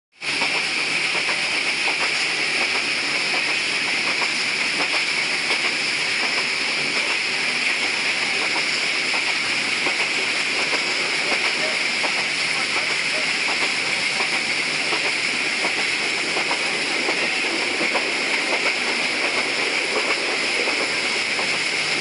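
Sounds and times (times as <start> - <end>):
train rushing in motion: 0.2 - 22.0.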